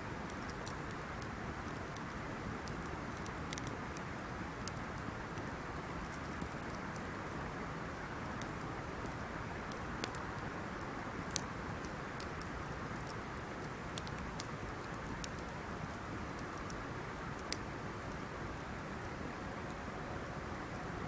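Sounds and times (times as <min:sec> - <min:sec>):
burning wood crackling: 0:00.0 - 0:19.8.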